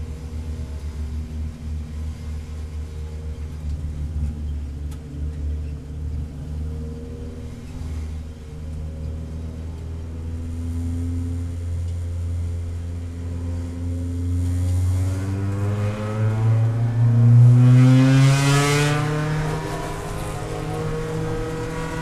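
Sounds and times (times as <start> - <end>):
race car engine accelerating: 2.0 - 22.0.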